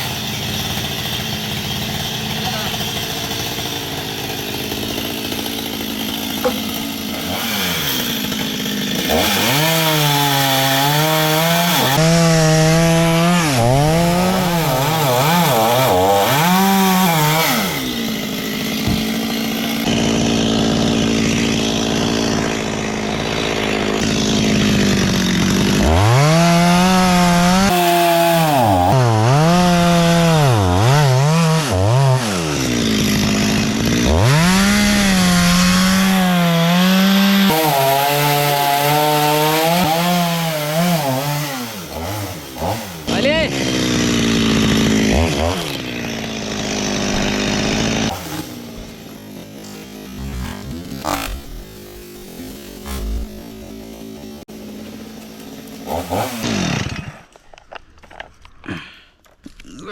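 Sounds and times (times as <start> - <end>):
chainsaw cutting wood: 0.0 - 59.5.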